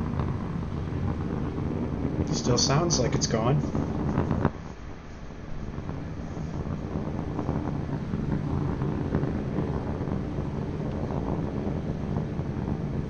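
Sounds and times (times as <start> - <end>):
rocket engines roaring: 0.0 - 13.0.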